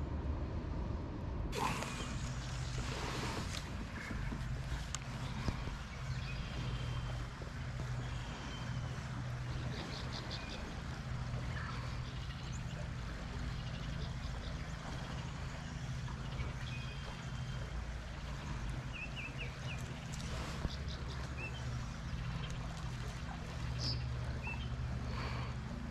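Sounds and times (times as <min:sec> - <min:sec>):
low mechanical hum: 0:00.0 - 0:25.9.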